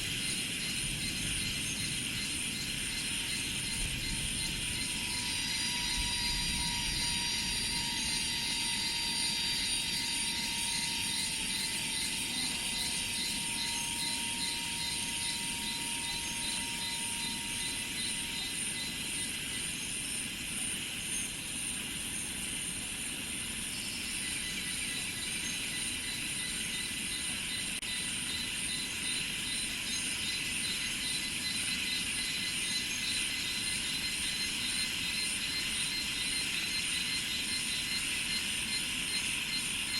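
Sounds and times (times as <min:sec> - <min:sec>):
insects trilling: 0:00.0 - 0:39.9
low steady whine: 0:00.0 - 0:39.9.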